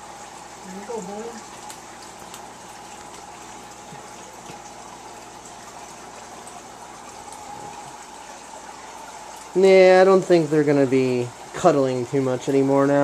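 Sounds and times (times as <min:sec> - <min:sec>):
even hum: 0:00.0 - 0:13.0
filter pump circulating water: 0:00.0 - 0:13.0.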